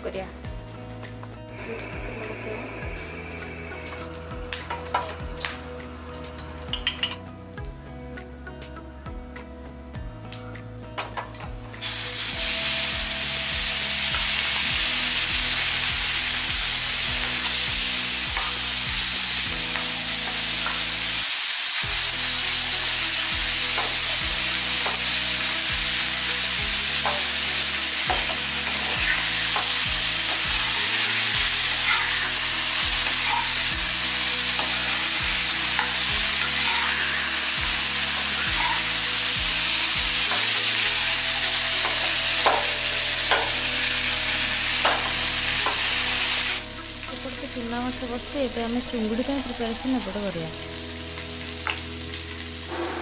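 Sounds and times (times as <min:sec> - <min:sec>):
fish frying in hot oil: 0:01.5 - 0:07.8, 0:11.8 - 0:53.0.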